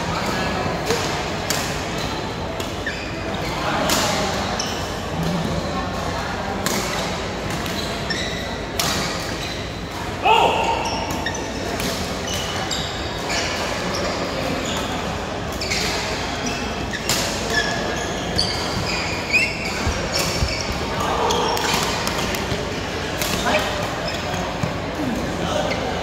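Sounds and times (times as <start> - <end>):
chatter of players: 0.0 - 26.0
shoes squeaking on court floor: 1.5 - 5.3, 6.7 - 26.0.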